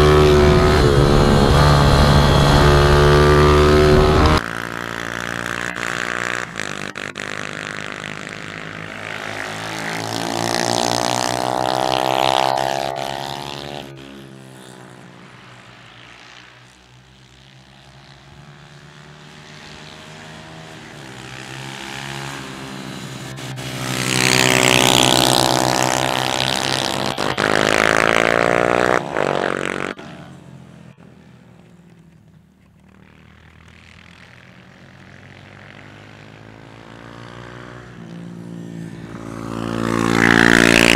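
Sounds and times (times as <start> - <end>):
pit bike engines buzzing: 0.0 - 40.9.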